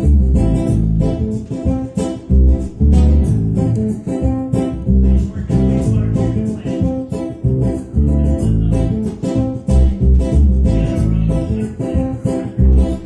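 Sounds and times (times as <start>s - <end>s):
guitar-led music: 0.0s - 13.0s.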